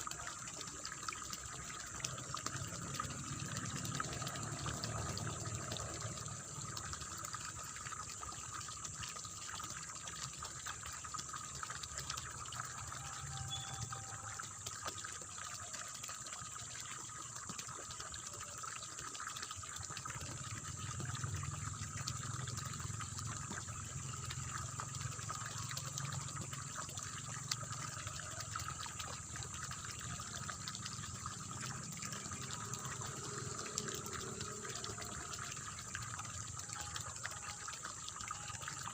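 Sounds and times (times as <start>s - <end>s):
water babbling in channel: 0.0s - 38.9s.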